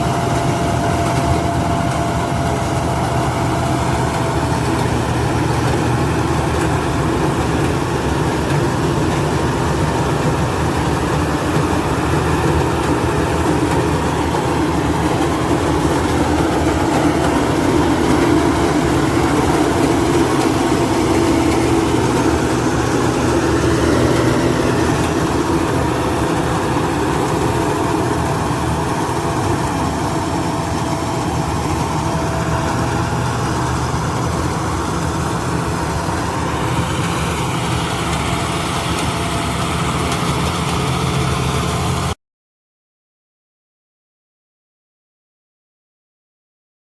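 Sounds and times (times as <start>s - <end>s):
combine harvester engine drone: 0.0s - 42.2s
whining tones: 0.0s - 42.2s.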